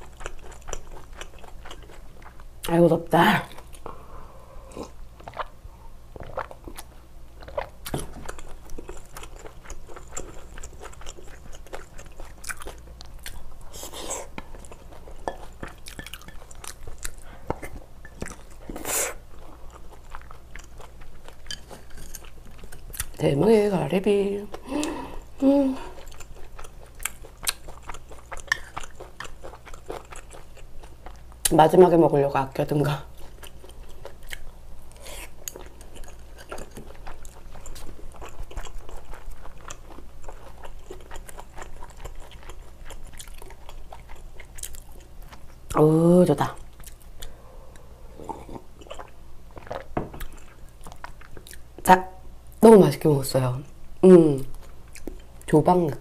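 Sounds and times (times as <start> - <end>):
person chewing food: 0.0 - 2.6, 4.6 - 23.2, 24.5 - 31.5, 33.1 - 45.8, 46.5 - 51.8, 54.5 - 55.5.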